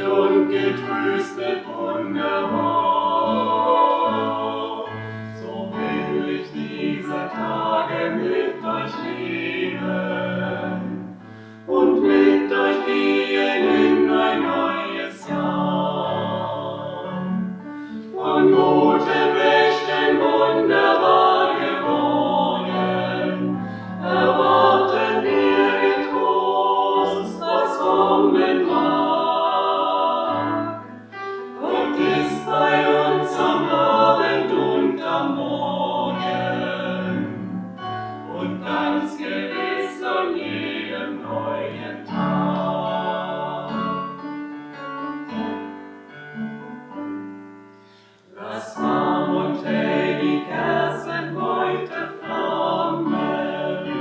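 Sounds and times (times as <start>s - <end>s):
vocal ensemble singing a hymn: 0.0s - 45.7s, 47.8s - 54.0s
electronic keyboard accompaniment: 0.0s - 54.0s.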